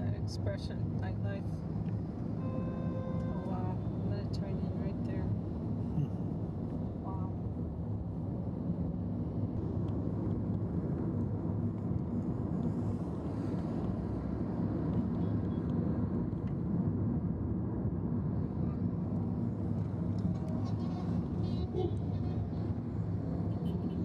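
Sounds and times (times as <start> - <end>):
road noise: 0.0 - 24.0
vehicle engine rumble: 0.0 - 24.0.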